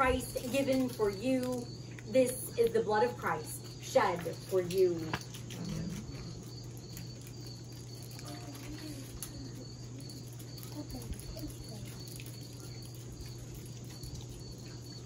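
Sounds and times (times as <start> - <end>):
crickets chirping: 0.0 - 15.0
low electrical hum: 0.0 - 15.0.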